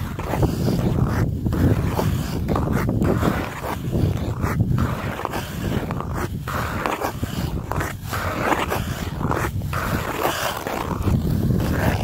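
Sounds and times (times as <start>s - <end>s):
ice skate blades scraping ice: 0.0s - 12.0s.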